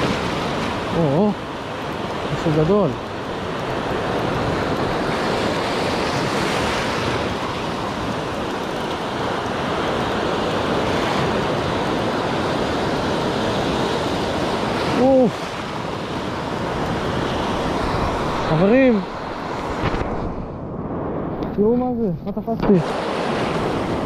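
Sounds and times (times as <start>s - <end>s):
sea surf breaking: 0.0s - 24.0s
wind on microphone: 3.4s - 24.0s.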